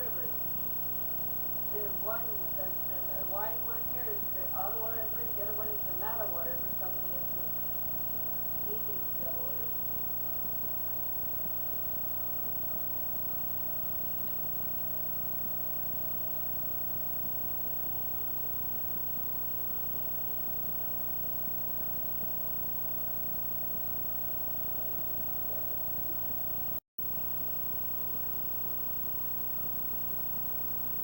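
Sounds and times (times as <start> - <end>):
constant whine: 0.0 - 26.8
electrical hum and buzz: 0.0 - 31.0.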